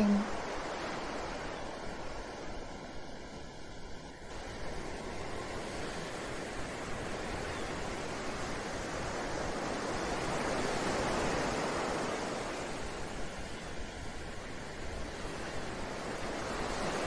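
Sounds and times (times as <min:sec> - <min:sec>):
ocean wave washing: 0:00.0 - 0:17.0.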